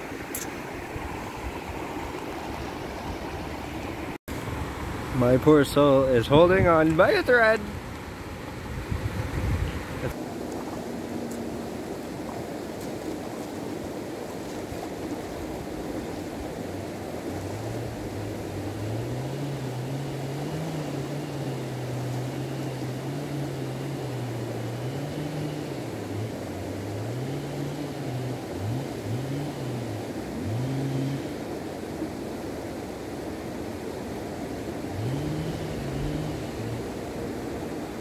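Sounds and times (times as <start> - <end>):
creek rushing over stones: 0.0 - 38.0.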